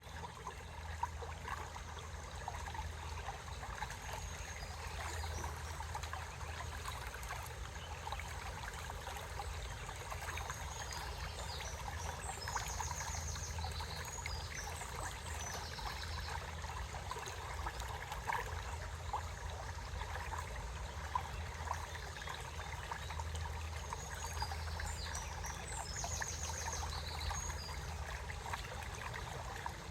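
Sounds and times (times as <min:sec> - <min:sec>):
stream trickling: 0:00.0 - 0:29.9.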